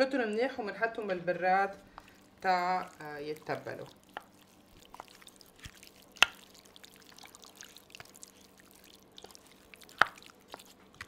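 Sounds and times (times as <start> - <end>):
wet squishing of meat: 1.9 - 11.0.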